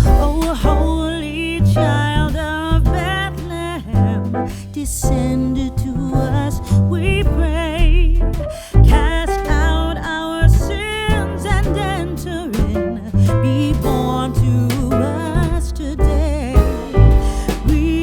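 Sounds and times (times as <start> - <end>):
christmas carol on guitar and bass: 0.0 - 18.0.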